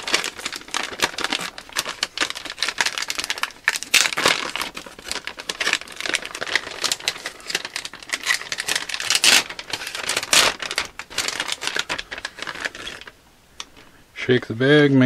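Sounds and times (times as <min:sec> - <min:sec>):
plastic bag crinkling: 0:00.0 - 0:13.9.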